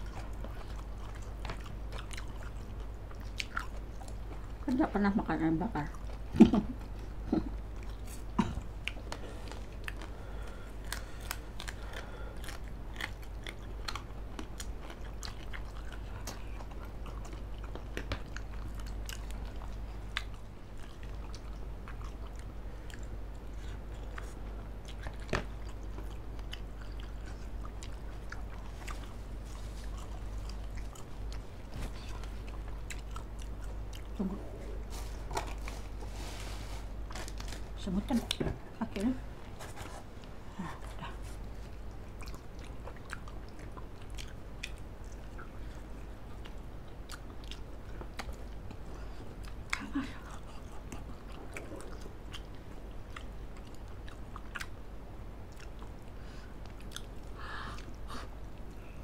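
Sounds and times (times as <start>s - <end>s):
people chewing food: 0.0s - 59.0s
steady low hum: 0.0s - 59.0s.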